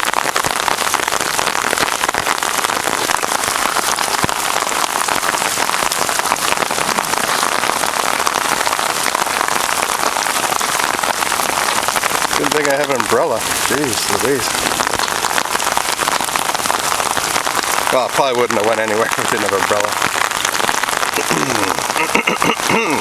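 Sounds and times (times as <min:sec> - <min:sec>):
heavy rain drumming on umbrella: 0:00.0 - 0:23.0.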